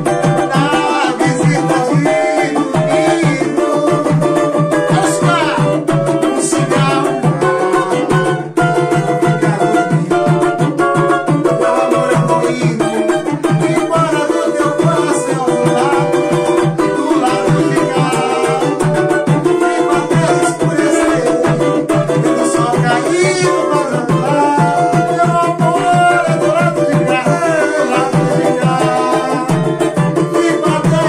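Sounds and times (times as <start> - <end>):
banjo strummed rapidly: 0.0 - 31.0
man singing: 0.0 - 31.0.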